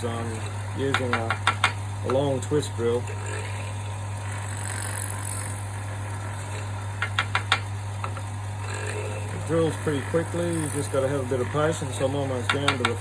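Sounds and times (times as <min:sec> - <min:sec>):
low motor hum: 0:00.0 - 0:13.0
wood lathe running: 0:00.0 - 0:13.0.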